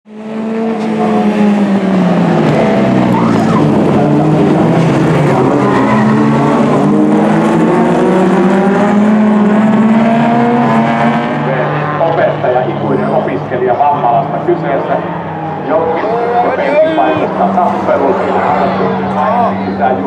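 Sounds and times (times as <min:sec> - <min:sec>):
race car engines revving: 0:00.1 - 0:20.0
tyres skidding: 0:00.4 - 0:20.0.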